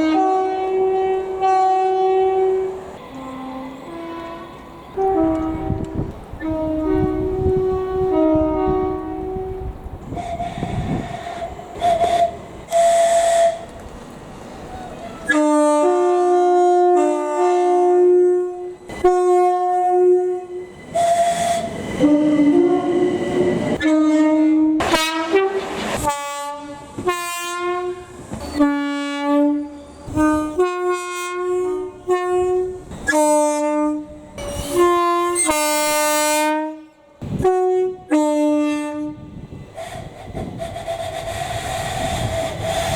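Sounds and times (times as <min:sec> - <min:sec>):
train two-tone horn blasts: 0:00.0 - 0:13.8, 0:15.2 - 0:41.1
rumbling train noise: 0:00.0 - 0:42.9.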